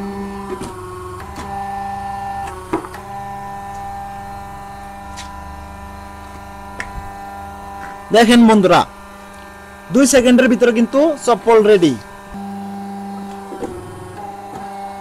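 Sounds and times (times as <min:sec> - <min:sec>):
electric motor humming: 0:00.0 - 0:15.0
press cutting foam sheet: 0:00.0 - 0:15.0.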